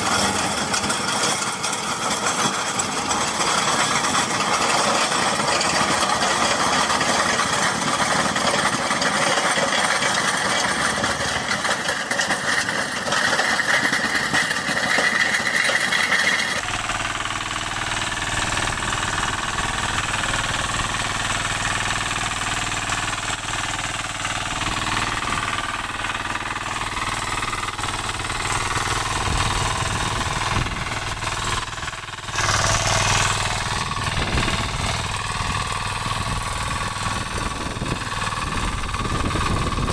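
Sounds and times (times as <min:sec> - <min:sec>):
engine with knocking clatter: 0:00.0 - 0:39.9.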